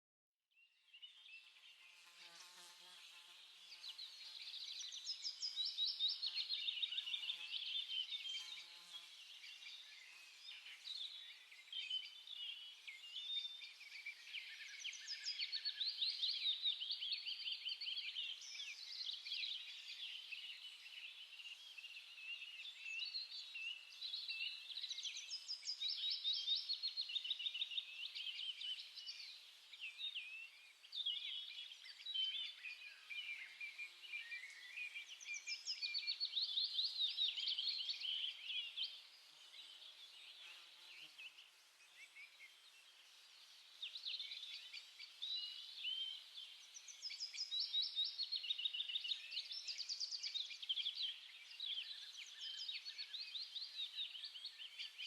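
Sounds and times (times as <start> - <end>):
songbirds chirping and trilling: 0.6 - 55.0.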